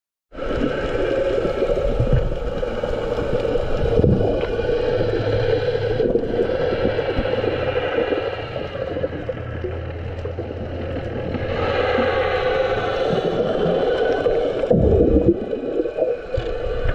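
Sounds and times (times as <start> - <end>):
muffled water noise: 0.3 - 16.9.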